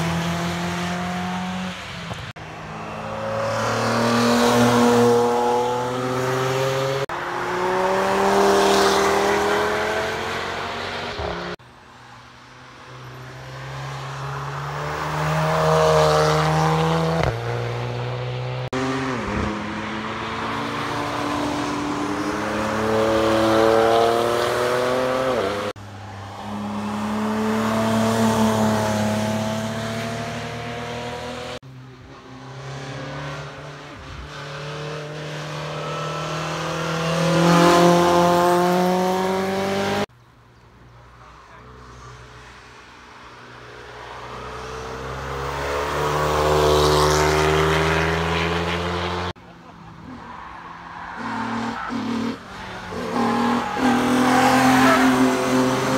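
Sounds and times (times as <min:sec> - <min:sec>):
sports cars racing past: 0:00.0 - 0:40.1, 0:41.3 - 0:55.9.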